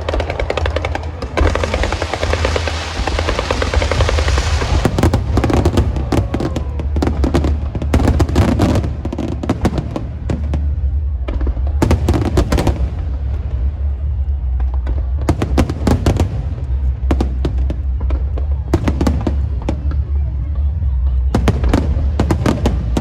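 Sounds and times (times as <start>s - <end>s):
firecrackers crackling: 0.0s - 23.0s
fireworks bangs: 0.0s - 23.0s.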